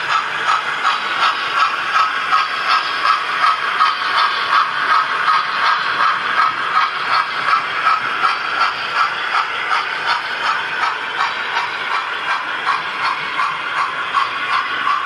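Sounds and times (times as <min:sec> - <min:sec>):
model train rattling on track: 0:00.0 - 0:15.0.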